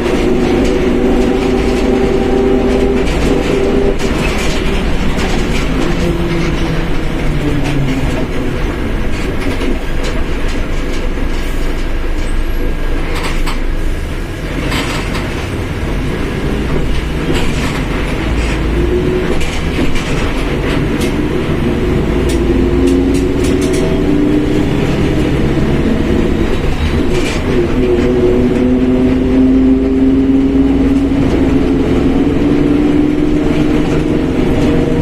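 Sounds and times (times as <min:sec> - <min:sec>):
bus drivetrain and road rumble: 0:00.0 - 0:35.0.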